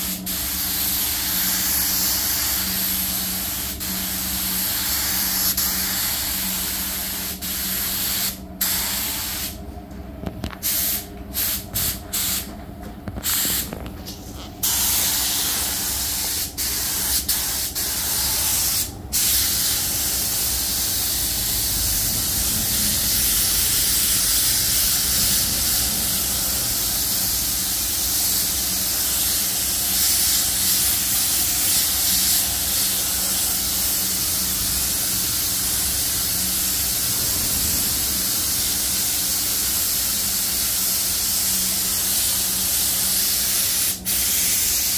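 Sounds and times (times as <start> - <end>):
air spray gun hissing: 0.0 - 9.6, 10.6 - 12.5, 13.2 - 44.9
steady hum: 0.0 - 44.9.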